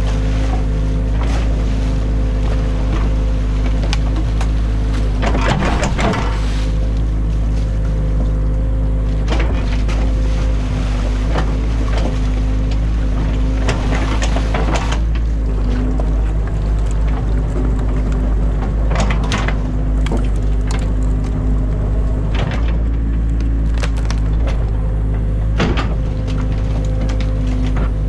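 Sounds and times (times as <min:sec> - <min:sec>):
excavator engine running: 0:00.0 - 0:28.0
water splashing: 0:00.0 - 0:28.0.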